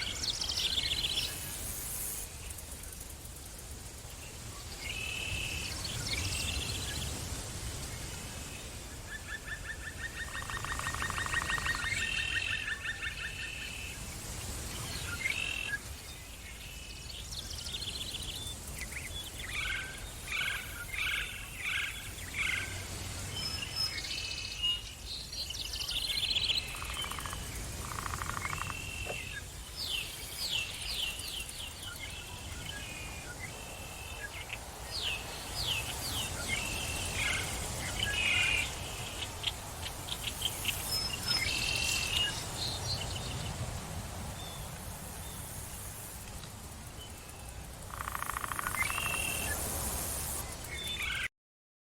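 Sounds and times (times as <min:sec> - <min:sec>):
low woodland hum: 0:00.0 - 0:51.3.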